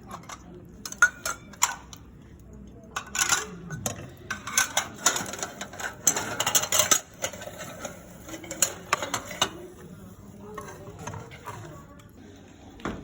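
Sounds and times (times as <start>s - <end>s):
metal utensils clinking in pot: 0.0s - 2.1s, 2.8s - 12.1s.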